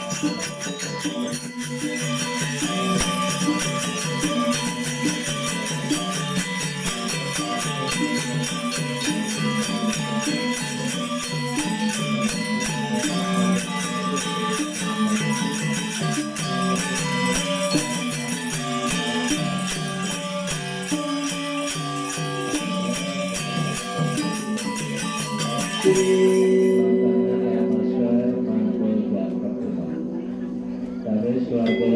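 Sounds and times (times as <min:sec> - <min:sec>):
gamelan ensemble playing: 0:00.0 - 0:31.9.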